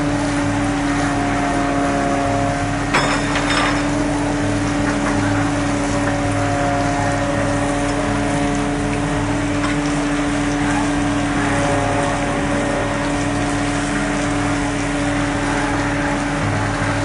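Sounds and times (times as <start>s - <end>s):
boat engine hum and throb: 0.0s - 17.0s
water wash: 0.0s - 17.0s.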